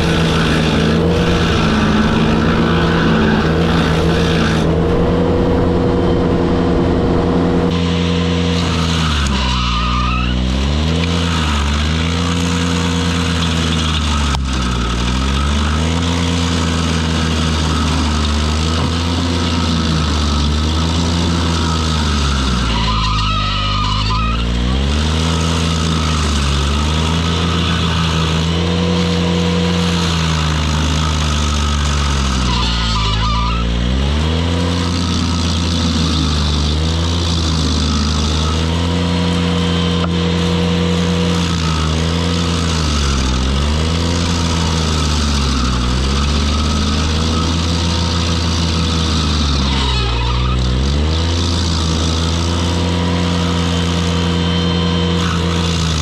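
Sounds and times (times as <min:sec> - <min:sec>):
tractor engine at high revs: 0:00.0 - 0:56.0.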